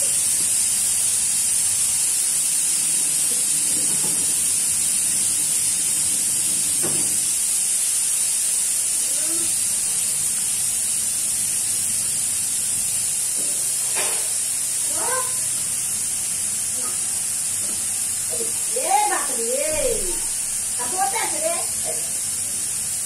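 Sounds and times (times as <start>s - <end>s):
steady high-pitched hiss: 0.0s - 23.0s.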